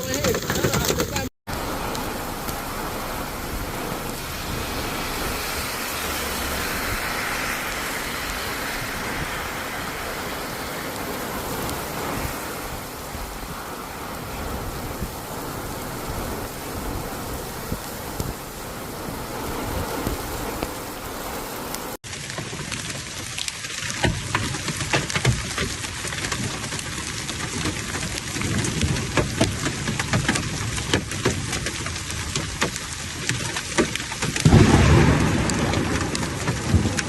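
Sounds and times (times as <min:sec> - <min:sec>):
heavy rain falling: 0:00.0 - 0:37.0.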